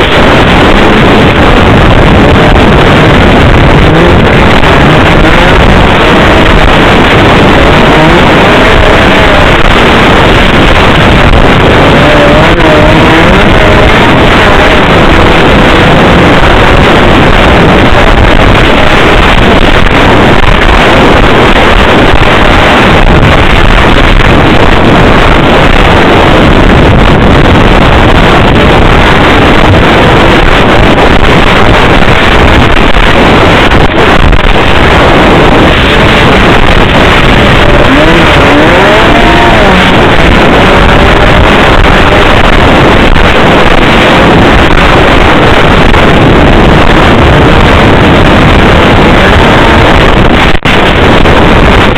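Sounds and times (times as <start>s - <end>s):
rushing wind noise: 0.0s - 51.9s
snowmobile engine running: 0.0s - 51.9s.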